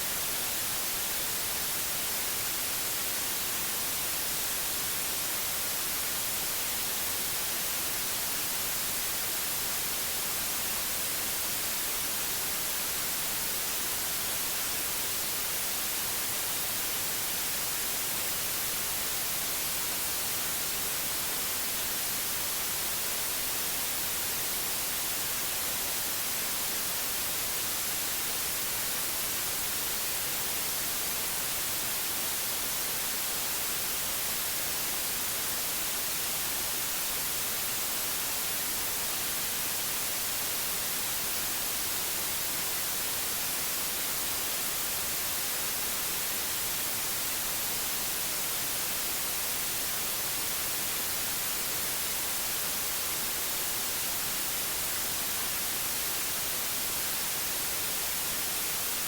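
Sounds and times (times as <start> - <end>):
steady white noise: 0.0 - 59.0.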